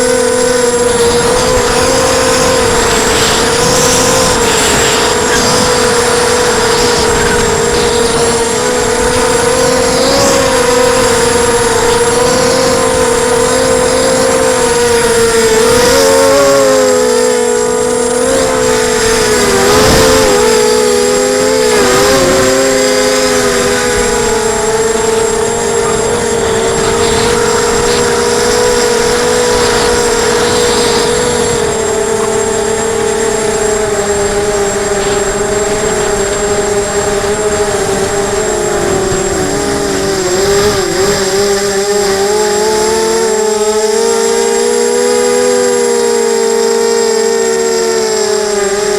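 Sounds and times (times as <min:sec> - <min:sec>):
drone propellers humming: 0:00.0 - 0:48.9.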